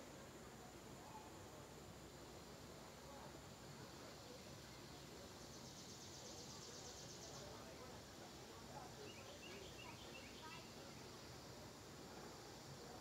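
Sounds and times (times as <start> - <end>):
faint hiss: 0.0 - 13.0.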